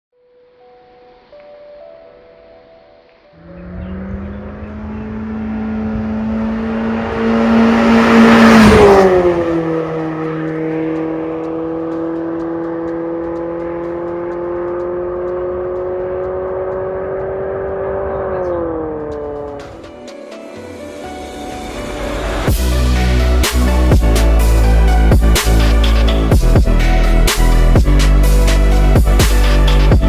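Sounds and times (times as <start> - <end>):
car engine starting and idling: 3.4 - 29.8.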